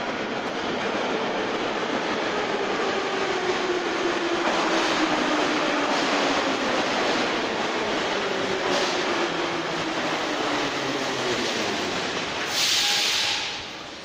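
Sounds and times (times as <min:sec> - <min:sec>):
metro train rail rumble: 0:00.0 - 0:14.0.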